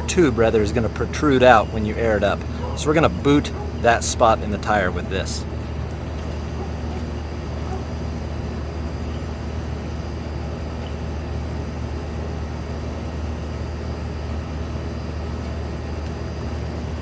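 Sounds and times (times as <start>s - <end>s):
low rumble with hum: 0.0s - 17.0s.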